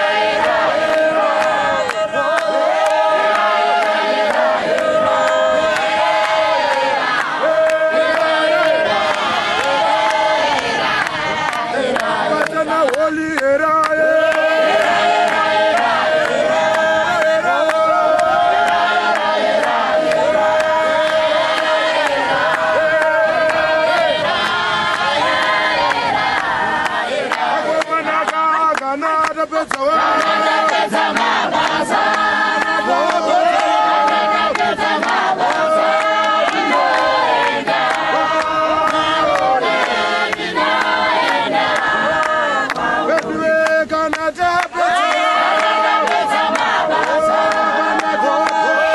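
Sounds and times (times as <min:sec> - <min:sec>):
congregation singing a hymn: 0:00.0 - 0:48.9
steady handclaps: 0:00.0 - 0:48.9.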